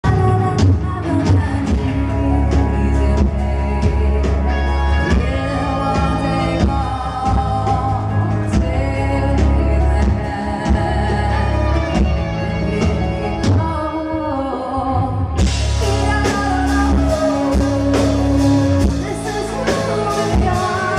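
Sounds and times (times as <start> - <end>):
live metal band playing: 0.0 - 20.9
person singing: 0.0 - 20.9.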